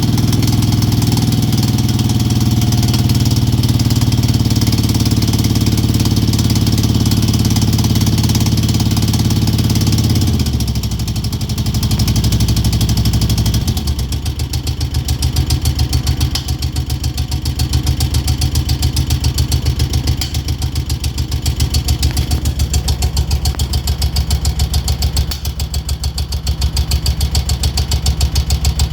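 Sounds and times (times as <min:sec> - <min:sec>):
motorcycle engine revving and idling: 0:00.0 - 0:28.9.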